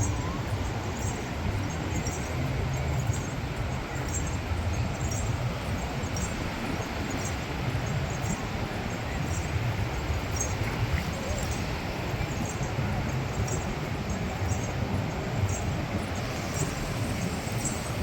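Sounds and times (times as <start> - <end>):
surf: 0.0 - 18.0
wind rumble on microphone: 0.0 - 18.0.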